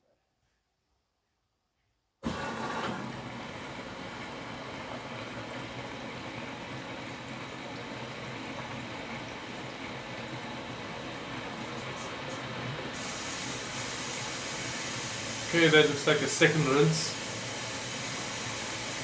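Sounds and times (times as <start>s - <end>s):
water rushing into washing machine: 2.2s - 19.0s.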